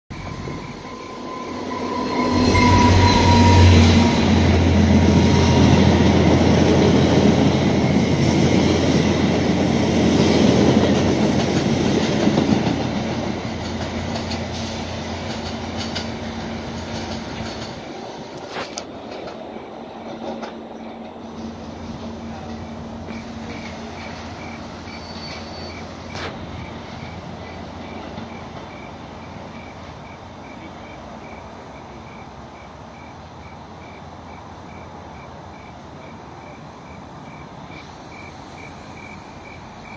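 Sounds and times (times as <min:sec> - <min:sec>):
train engine hum: 0:00.1 - 0:39.9
train wheels rumbling on rails: 0:00.1 - 0:39.9.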